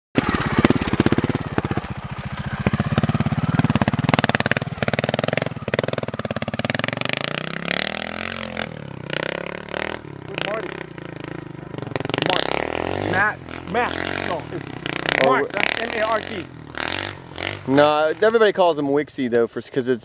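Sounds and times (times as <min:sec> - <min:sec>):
motorcycle engine with throttle blips: 0:00.2 - 0:18.4.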